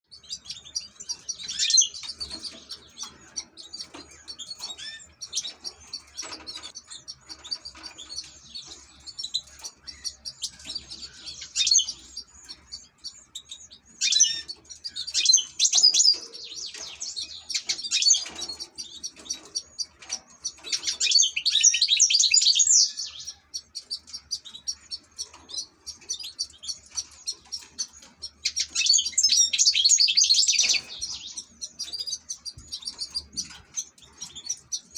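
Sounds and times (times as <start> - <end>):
bird twittering song: 0.0 - 34.9.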